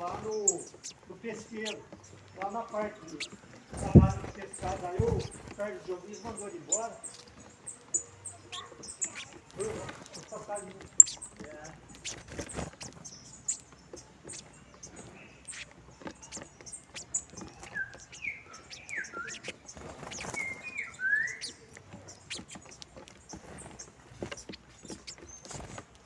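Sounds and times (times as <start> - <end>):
finches chirping: 0.0 - 26.0
small scattered ticks and clicks: 0.0 - 26.0.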